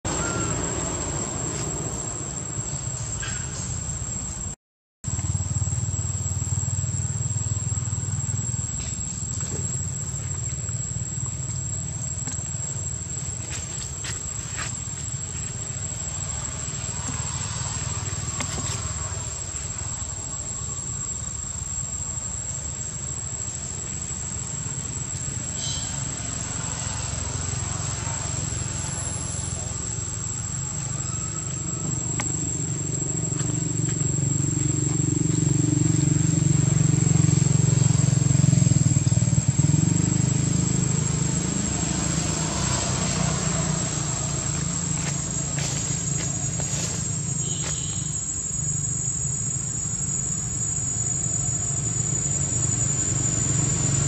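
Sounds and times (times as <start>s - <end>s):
high-pitched insect drone: 0.1s - 54.0s.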